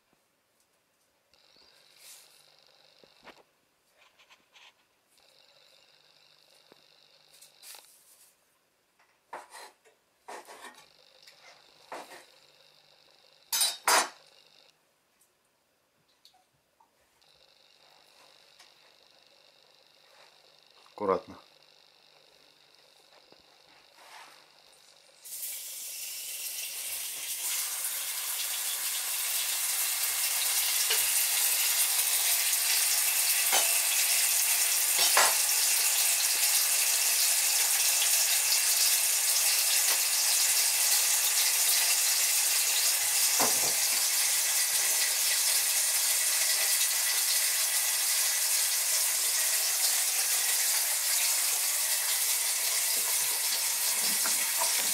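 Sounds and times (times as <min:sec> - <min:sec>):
steady sizzling hiss: 0:00.0 - 0:54.9.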